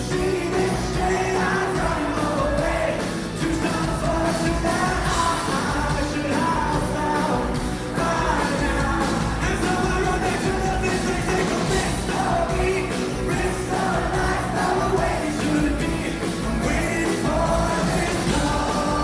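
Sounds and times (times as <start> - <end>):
live rock band: 0.0 - 19.0
person singing: 0.0 - 19.0.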